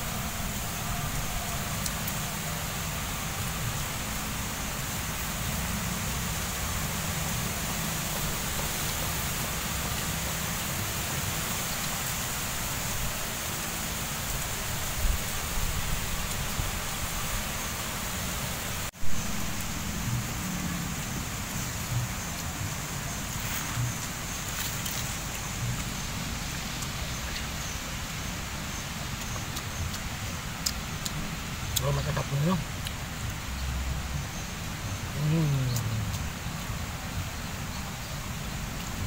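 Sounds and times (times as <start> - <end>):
even hiss: 0.0 - 39.0.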